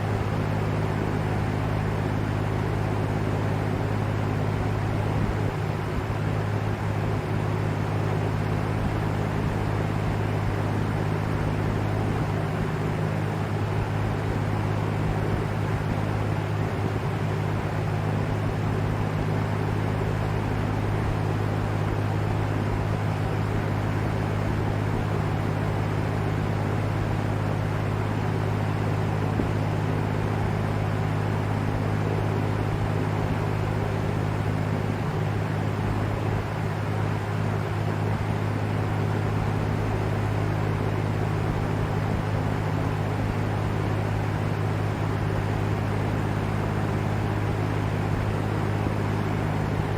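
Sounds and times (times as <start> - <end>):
fan air rushing: 0.0 - 49.9.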